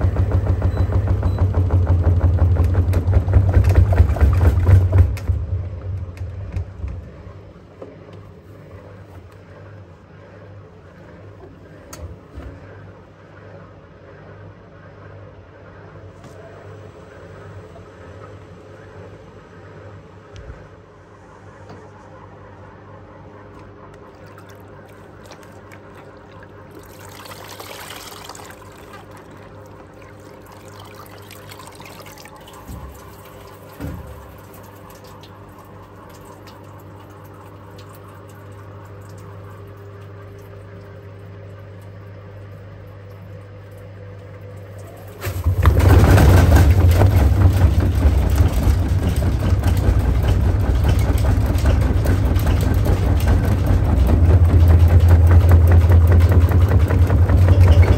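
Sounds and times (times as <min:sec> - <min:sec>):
water swishing in turning drum: 0:00.0 - 0:13.7, 0:16.2 - 0:57.9
low steady hum: 0:00.0 - 0:57.9.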